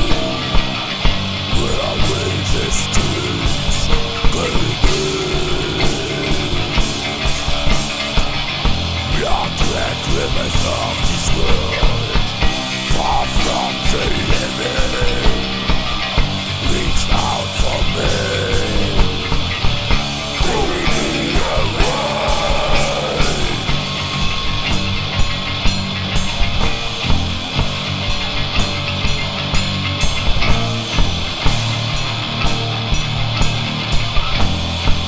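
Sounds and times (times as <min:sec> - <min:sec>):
metal band playing: 0:00.0 - 0:35.0.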